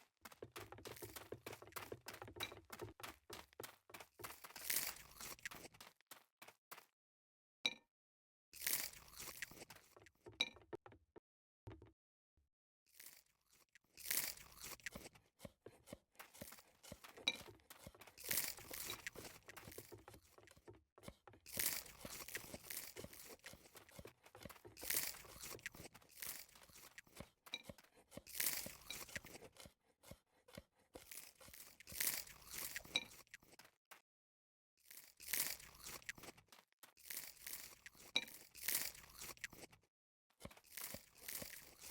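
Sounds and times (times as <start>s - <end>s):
crisp crunching and chewing: 0.0s - 6.9s, 8.6s - 10.3s, 12.9s - 34.0s, 34.8s - 39.8s, 40.4s - 41.9s.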